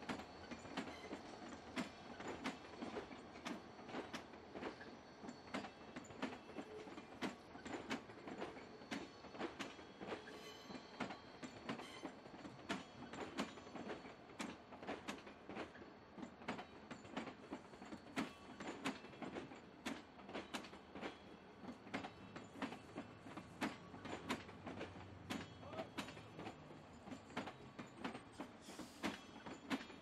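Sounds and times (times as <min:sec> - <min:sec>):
train wheels clacking over rail joints: 0:00.0 - 0:30.0.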